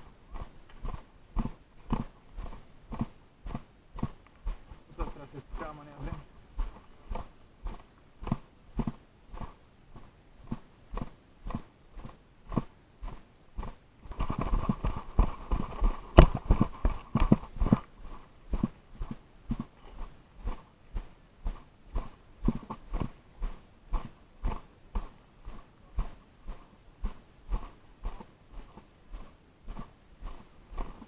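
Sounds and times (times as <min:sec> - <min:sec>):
footsteps walking: 0:00.0 - 0:31.0
scuffing and rustling: 0:00.0 - 0:31.0.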